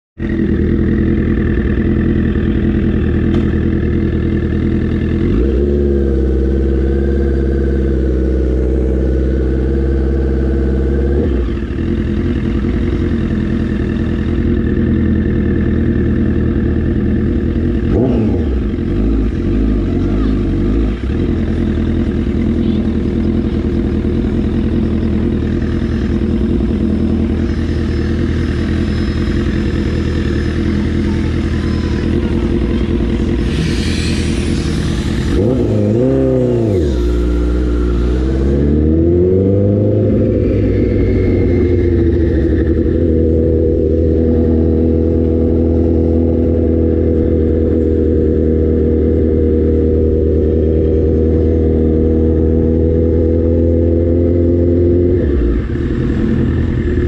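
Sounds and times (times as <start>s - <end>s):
motorcycle engine running: 0.2s - 57.0s.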